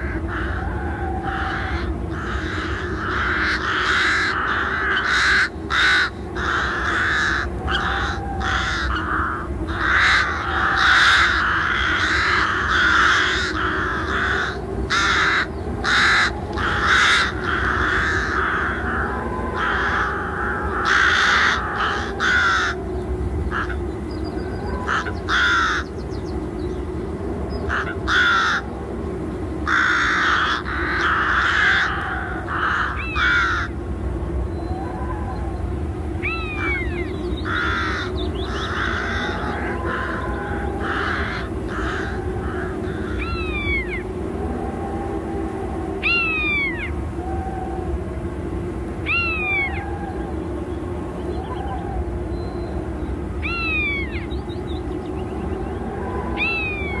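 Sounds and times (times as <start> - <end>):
birds calling: 0.0 - 57.0
low background rumble: 0.0 - 57.0.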